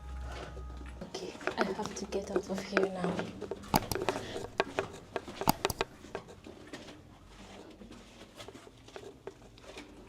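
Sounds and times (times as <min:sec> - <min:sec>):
faint footsteps: 0:00.0 - 0:10.0.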